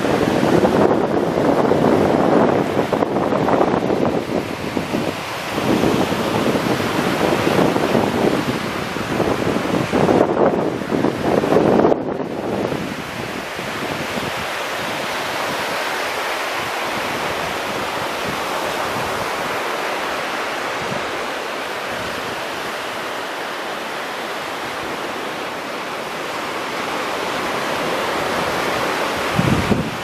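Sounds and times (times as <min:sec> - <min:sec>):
ocean surf breaking on a beach: 0:00.0 - 0:30.0.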